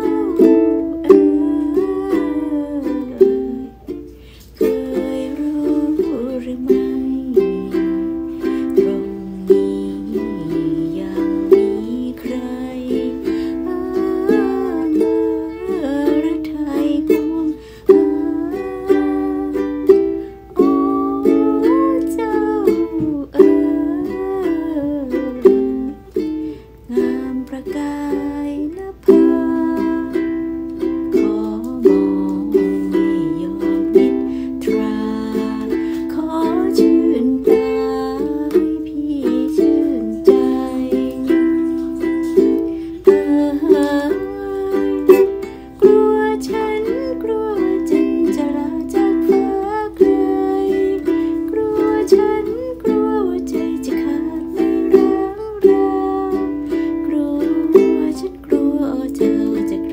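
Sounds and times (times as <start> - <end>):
ukulele strumming: 0.0 - 59.9
woman singing: 0.0 - 59.9.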